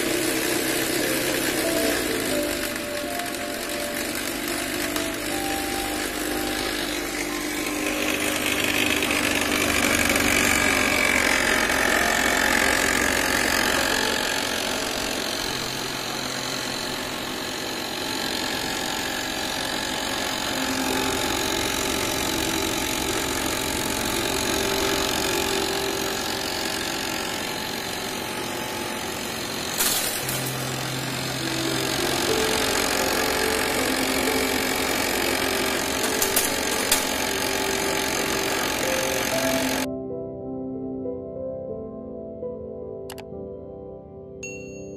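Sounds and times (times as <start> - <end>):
motorized drum cracking corn: 0.0 - 39.9.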